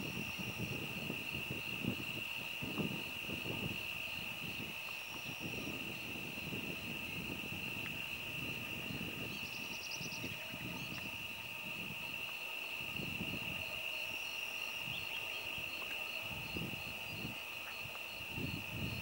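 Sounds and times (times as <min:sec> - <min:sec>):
insects droning: 0:00.0 - 0:19.0
wind on microphone: 0:00.0 - 0:19.0.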